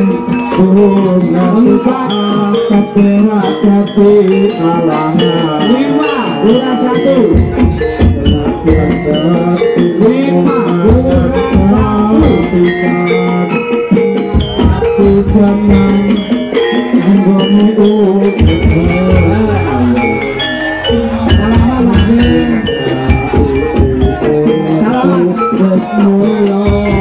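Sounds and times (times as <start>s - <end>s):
hand drums with bending pitch: 0.0s - 27.0s
pitched percussion held notes: 0.0s - 27.0s.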